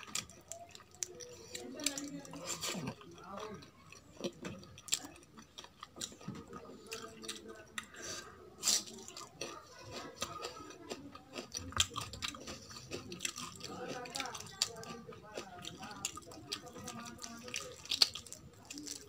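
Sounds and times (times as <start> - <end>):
person chewing: 0.0 - 19.0.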